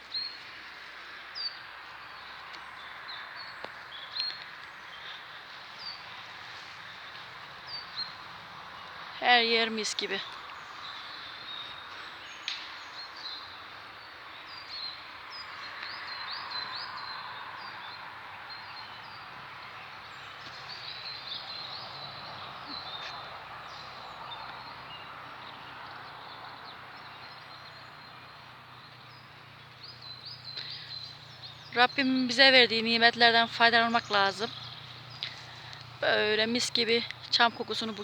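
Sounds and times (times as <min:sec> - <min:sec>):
small birds chirping: 0:01.4 - 0:38.0.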